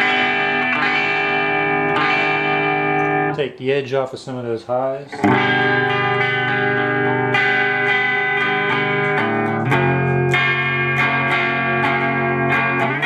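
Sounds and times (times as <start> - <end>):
overdriven electric guitar chords: 0.0 - 3.4, 5.1 - 13.0.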